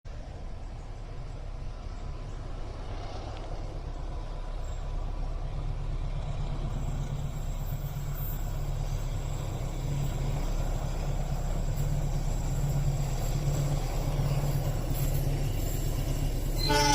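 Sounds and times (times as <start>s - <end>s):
diesel locomotive engine rumble: 0.1s - 16.9s.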